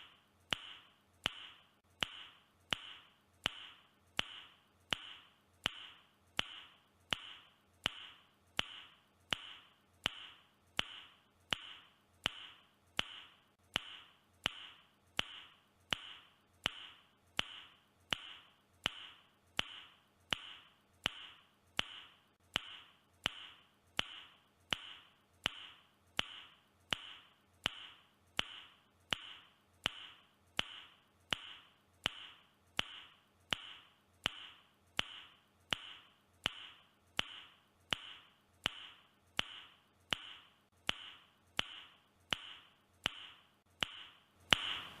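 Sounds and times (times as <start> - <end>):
mouth clicks with airy hiss: 0.0 - 45.0.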